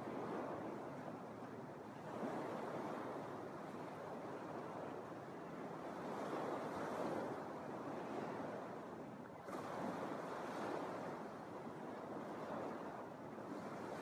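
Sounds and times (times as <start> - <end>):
waves washing on sandy beach: 0.0 - 14.0.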